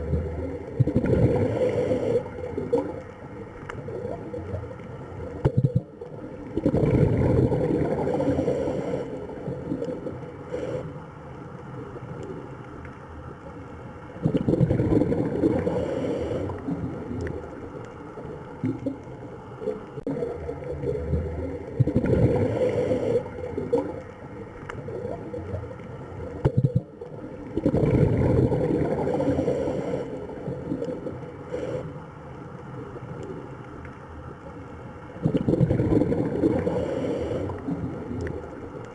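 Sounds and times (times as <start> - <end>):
rushing gurgling water: 0.0 - 10.8, 14.1 - 31.8, 35.1 - 38.9.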